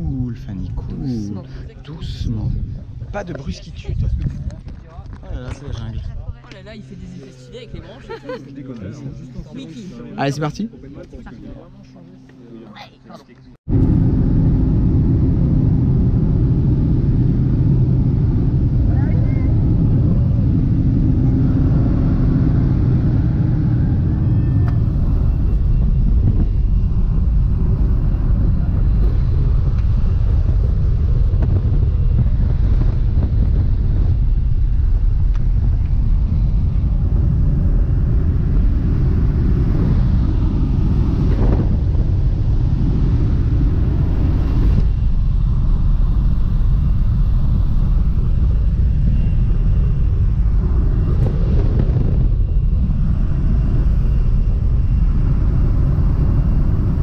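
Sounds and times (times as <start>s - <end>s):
plane engine and propeller drone: 0.0s - 57.0s.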